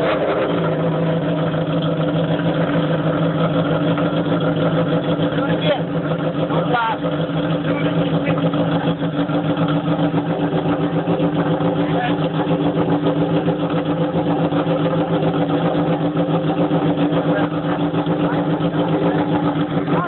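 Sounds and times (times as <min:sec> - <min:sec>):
quad engine idling: 0:00.0 - 0:20.0.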